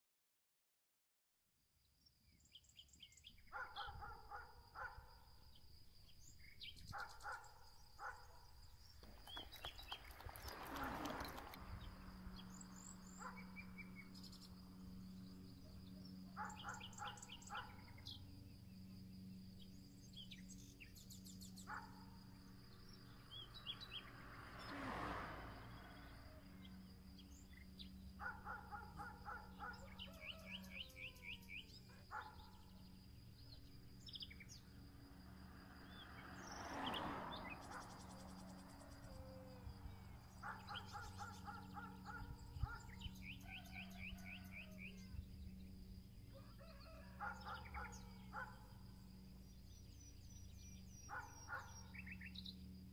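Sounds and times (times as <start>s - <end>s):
songbirds chirping and trilling: 2.0s - 52.9s.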